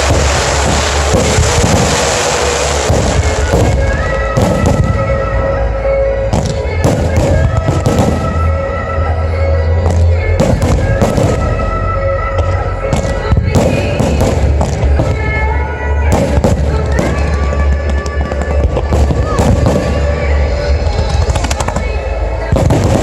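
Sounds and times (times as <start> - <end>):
deep rumble: 0.0 - 23.0
fireworks bangs and crackles: 0.0 - 23.0
loud music: 0.0 - 23.0.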